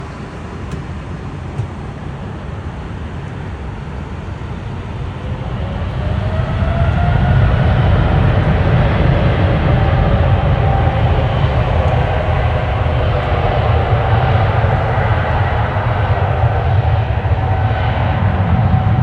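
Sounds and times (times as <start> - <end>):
jet engine whine rising: 0.0 - 19.0
jet engines rumbling: 0.0 - 19.0.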